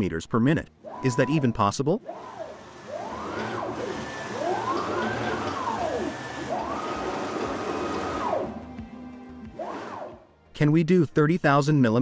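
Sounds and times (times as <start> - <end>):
machine motors whining: 0.7 - 10.4.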